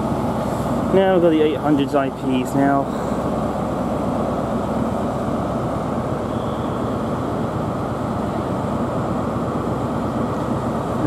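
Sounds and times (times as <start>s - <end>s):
trains idling drone: 0.0s - 11.0s.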